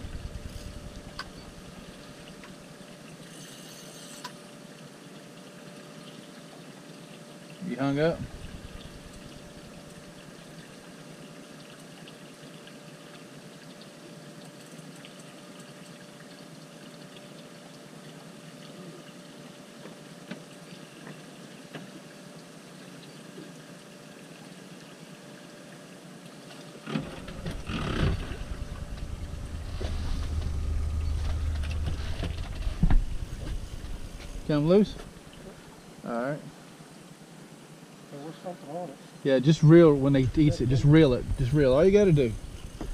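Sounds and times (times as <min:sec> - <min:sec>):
calm water hissing around boat: 0:00.0 - 0:42.9.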